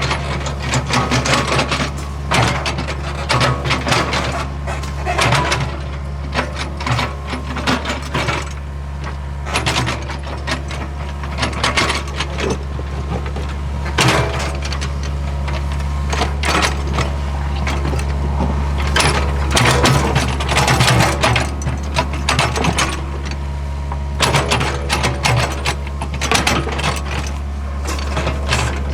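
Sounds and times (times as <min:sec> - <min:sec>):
clanks knocks and scraping: 0:00.0 - 0:28.9
excavator diesel engine running: 0:00.0 - 0:28.9.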